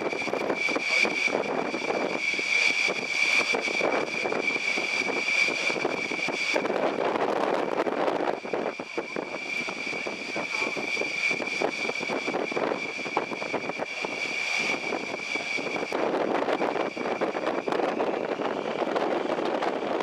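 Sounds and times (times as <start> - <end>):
helicopter engine whine: 0.0 - 20.0.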